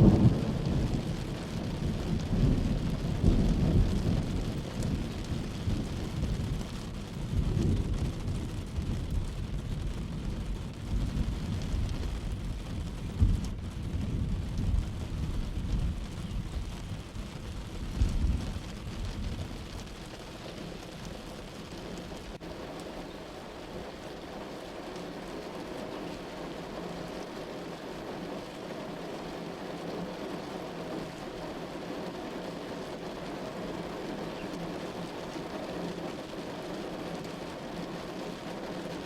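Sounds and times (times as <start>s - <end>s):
thunder rolling: 0.0s - 38.0s
heavy rain falling: 0.0s - 39.0s.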